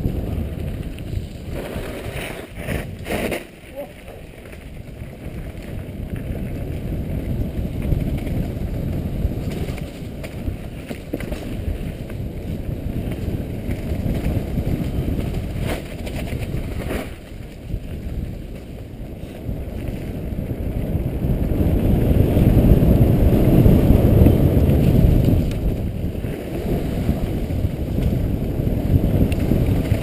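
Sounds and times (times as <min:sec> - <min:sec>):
bike rattle: 0:00.0 - 0:30.0
wind buffeting microphone: 0:00.0 - 0:30.0.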